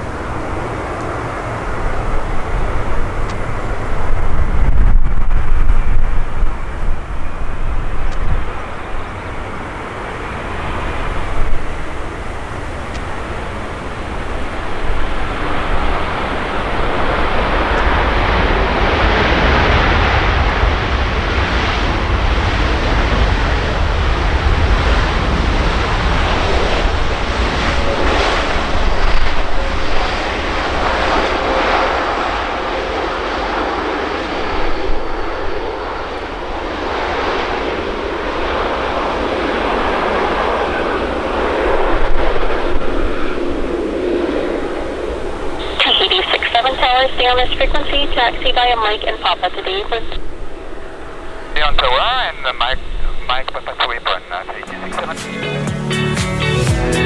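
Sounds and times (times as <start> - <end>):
jet engines roaring: 0.0 - 56.1.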